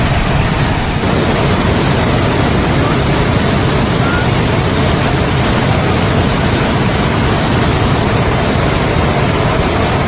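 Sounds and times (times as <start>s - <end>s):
loud rush of falling water: 0.0s - 10.0s.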